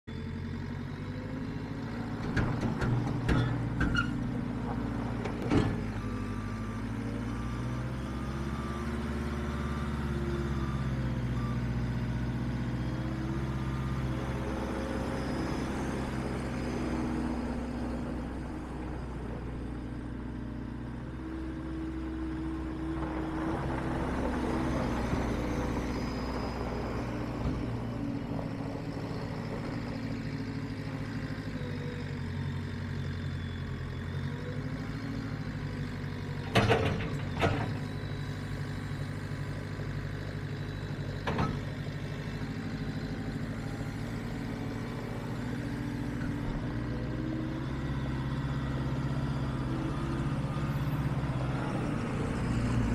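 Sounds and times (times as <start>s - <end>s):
diesel engine running: 0.1s - 52.9s.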